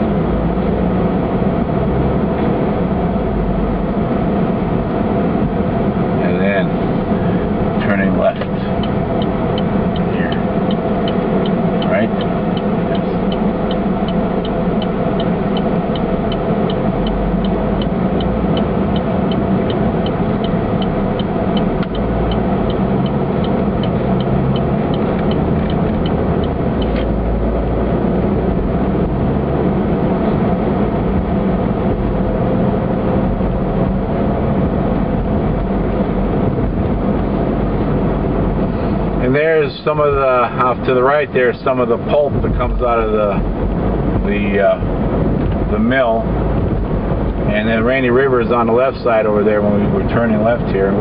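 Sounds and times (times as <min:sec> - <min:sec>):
car engine and road noise: 0:00.0 - 0:51.0
turn signal ticking: 0:07.0 - 0:39.9, 0:40.5 - 0:51.0.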